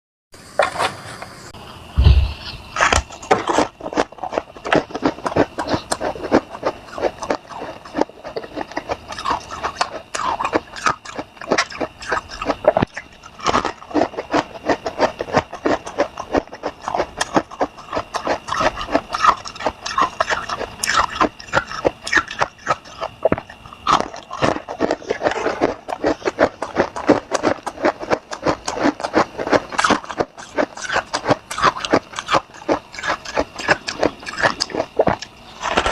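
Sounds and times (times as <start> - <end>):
frost being chewed crunching: 2.8 - 35.9.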